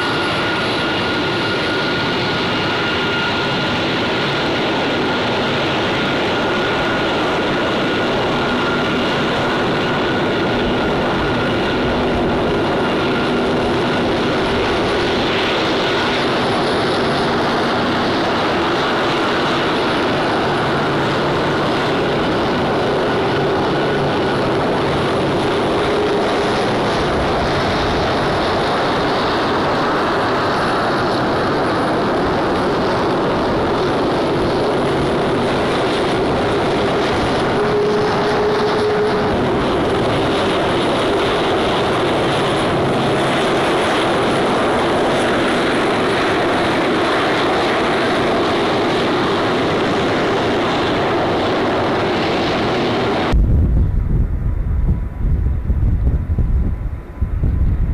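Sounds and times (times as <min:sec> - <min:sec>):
high engine whine: 0:00.0 - 0:57.9
jet engines running: 0:00.0 - 0:57.9.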